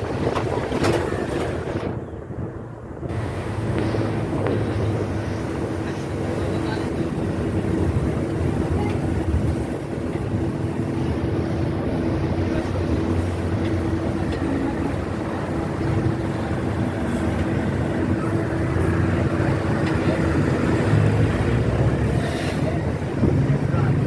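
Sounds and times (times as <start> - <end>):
vehicle engine hum: 0.0 - 24.0.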